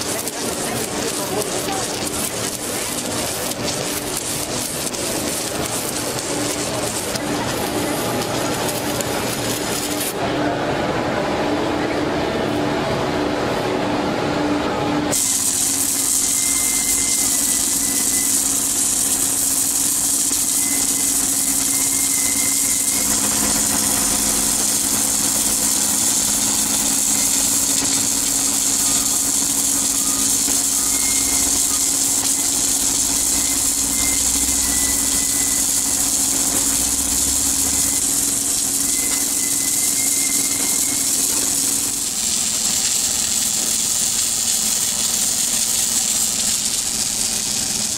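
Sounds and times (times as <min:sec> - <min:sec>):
machine hum: 0:00.0 - 0:47.9.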